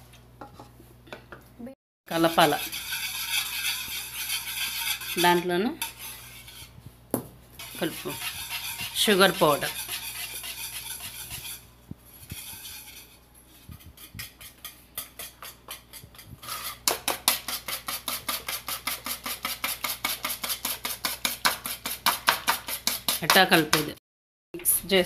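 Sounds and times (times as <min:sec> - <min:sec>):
utensil beating batter in steel bowl: 0:02.1 - 0:06.9, 0:07.6 - 0:24.0.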